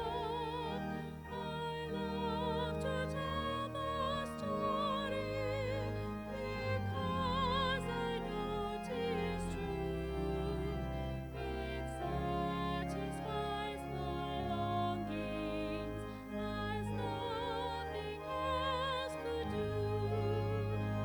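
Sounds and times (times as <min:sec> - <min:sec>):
sustained low accompaniment: 0:00.0 - 0:21.0.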